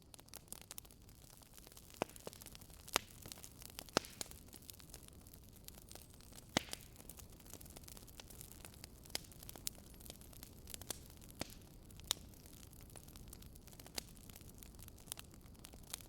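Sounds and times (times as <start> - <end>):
wood fire crackling and popping: 0.0 - 16.0
fire hissing: 0.3 - 16.0.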